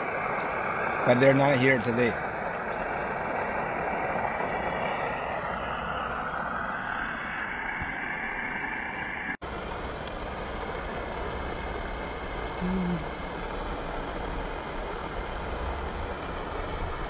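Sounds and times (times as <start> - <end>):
gas stove burner hissing: 0.0 - 17.0.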